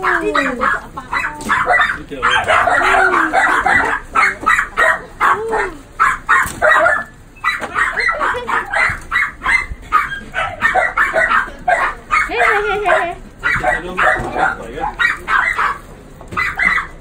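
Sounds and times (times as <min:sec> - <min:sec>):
dog whining: 0:00.0 - 0:17.0
small dogs yapping: 0:00.0 - 0:17.0.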